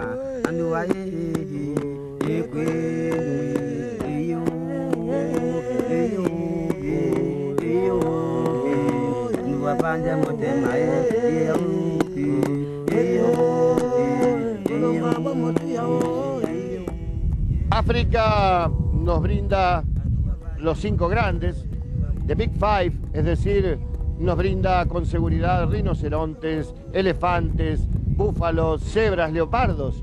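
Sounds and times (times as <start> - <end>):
voices chanting over a beat: 0.0 - 30.0.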